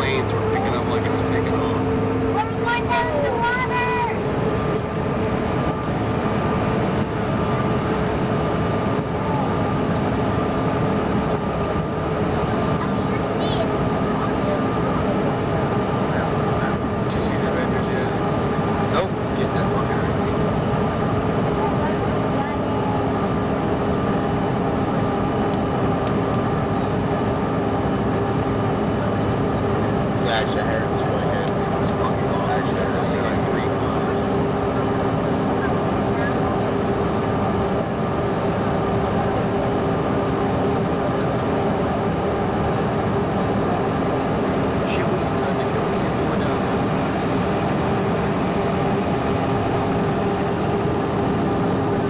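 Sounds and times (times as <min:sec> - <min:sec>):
airliner engines and rushing air: 0:00.0 - 0:52.0
steady hum: 0:00.0 - 0:52.0.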